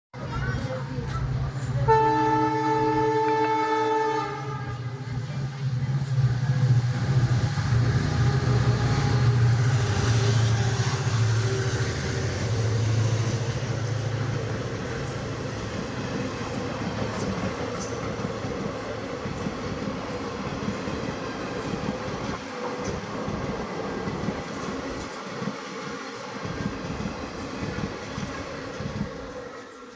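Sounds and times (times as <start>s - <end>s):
diesel locomotive engine droning: 0.2s - 29.9s
train rumbling on rails: 0.2s - 29.9s.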